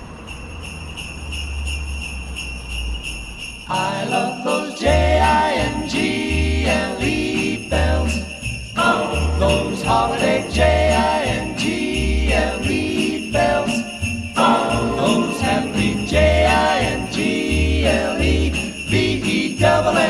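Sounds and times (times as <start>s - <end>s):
christmas music with sleigh bells: 0.0s - 20.0s
instrumental christmas music: 0.0s - 20.0s.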